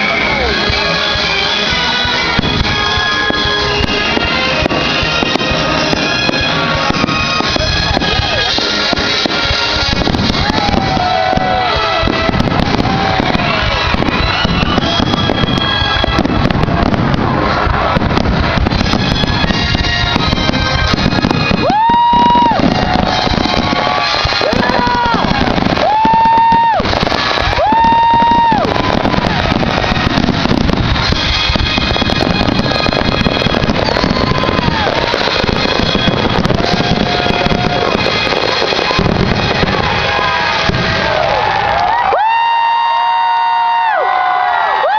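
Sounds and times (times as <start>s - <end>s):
loud music: 0.0s - 42.2s
fireworks banging and crackling: 0.0s - 44.9s
rising firework whistle: 0.0s - 44.9s.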